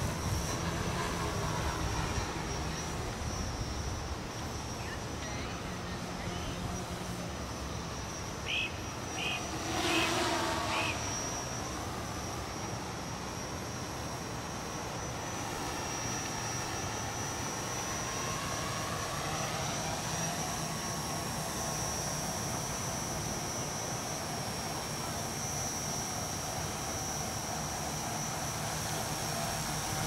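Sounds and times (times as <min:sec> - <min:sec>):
drone motors buzzing: 0:00.0 - 0:30.0.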